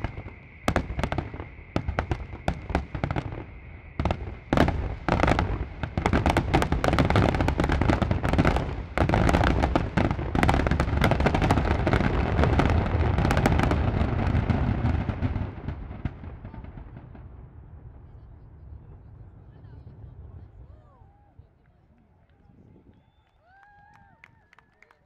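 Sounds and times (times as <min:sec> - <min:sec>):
fireworks bursting: 0:00.0 - 0:20.7.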